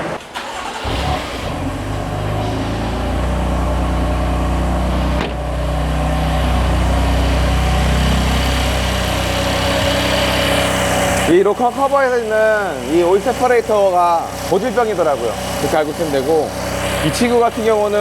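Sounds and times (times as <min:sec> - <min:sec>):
car engine starting and idling: 0:00.0 - 0:18.0.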